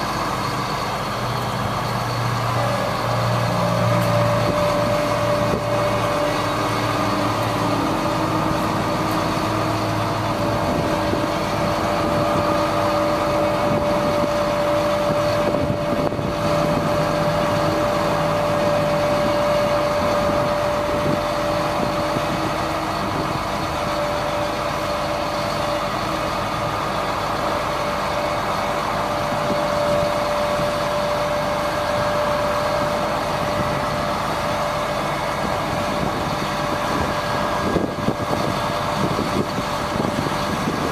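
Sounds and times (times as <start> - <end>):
truck engine running with high whine: 0.0 - 40.9.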